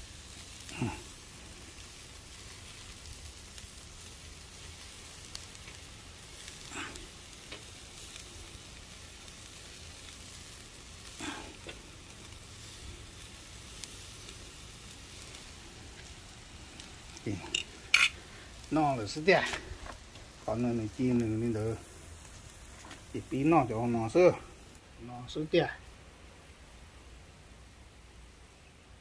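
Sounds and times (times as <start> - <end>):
beef sizzling on grill: 0.0 - 29.0.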